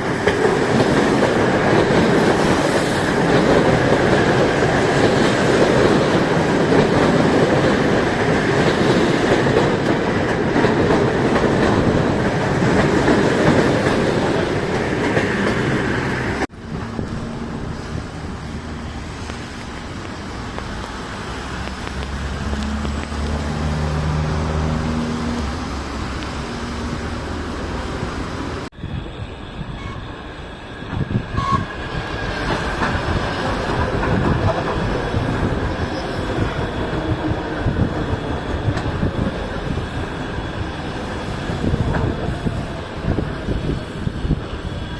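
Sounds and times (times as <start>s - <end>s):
train running on track: 0.0s - 44.9s.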